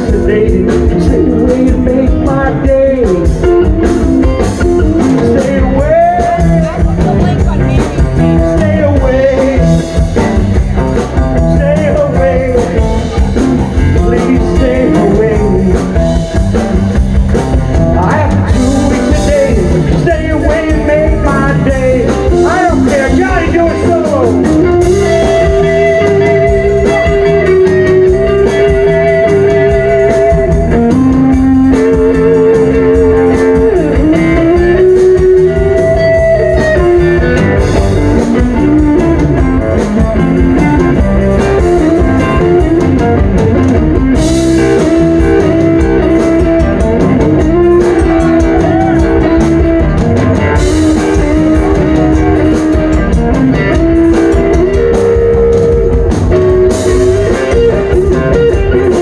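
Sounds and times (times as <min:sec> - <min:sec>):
electric guitar solo: 0:00.0 - 0:59.0
live blues band playing: 0:00.0 - 0:59.0.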